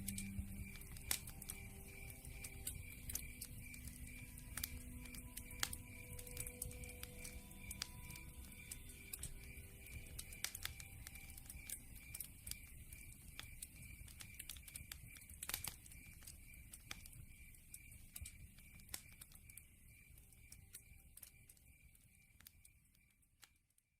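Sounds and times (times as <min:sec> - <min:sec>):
campfire crackling and popping: 0:00.0 - 0:23.8
faint high chirp: 0:00.0 - 0:23.9.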